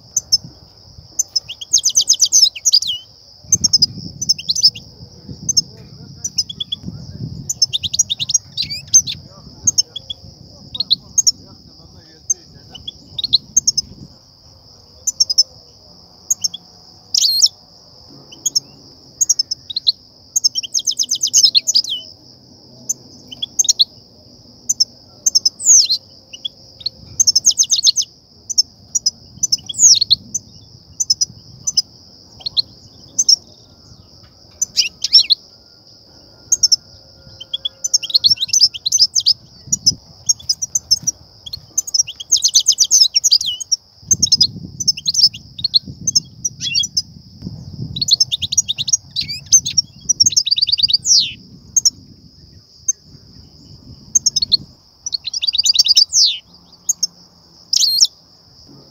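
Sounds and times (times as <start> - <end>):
finches chirping and trilling: 0.0 - 58.2.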